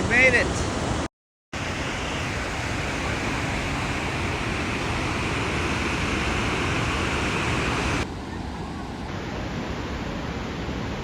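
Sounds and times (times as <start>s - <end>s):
waterfall roaring over rocks: 1.6s - 11.0s.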